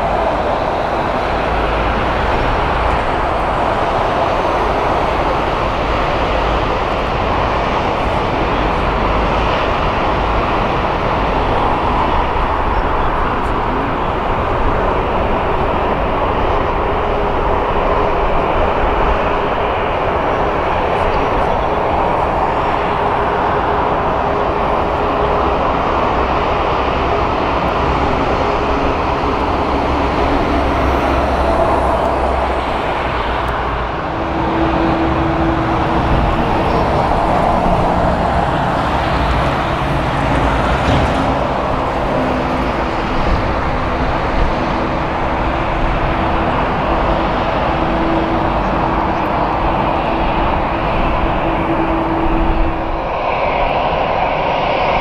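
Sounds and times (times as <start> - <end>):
jet engine hum: 0.0 - 55.0
jet engines rumbling: 0.0 - 55.0.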